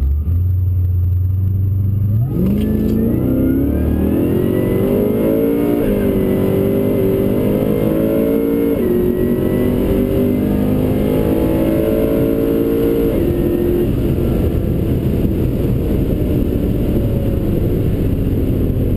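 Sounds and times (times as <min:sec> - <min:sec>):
car engine at full throttle: 0:00.0 - 0:18.9
wind and road noise: 0:00.0 - 0:18.9.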